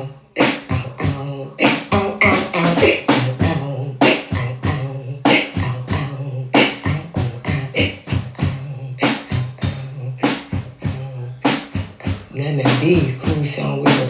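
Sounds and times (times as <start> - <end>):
beatboxing mouth percussion: 0.0 - 14.0.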